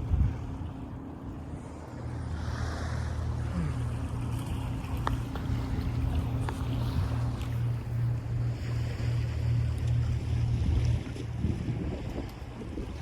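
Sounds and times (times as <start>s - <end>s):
wind rumbling over microphone: 0.0s - 13.0s.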